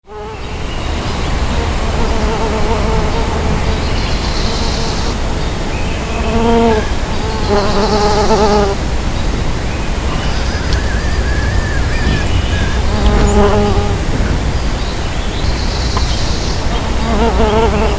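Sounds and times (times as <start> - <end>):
bees buzzing in flight: 0.1 - 17.9.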